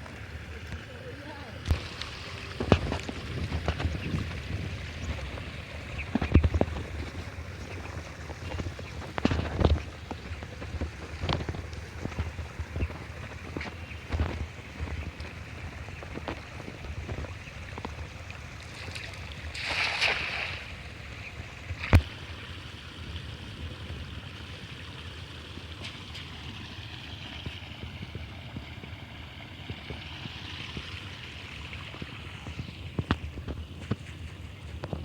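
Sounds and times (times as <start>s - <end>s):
water: 0.0s - 35.0s
water splashing: 0.0s - 35.0s
wind: 0.0s - 35.0s.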